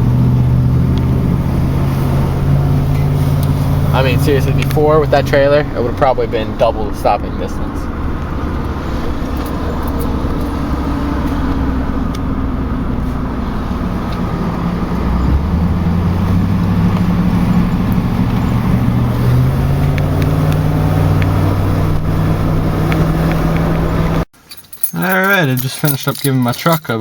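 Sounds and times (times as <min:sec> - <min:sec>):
truck engine running: 0:00.0 - 0:24.3
road noise: 0:00.0 - 0:27.0.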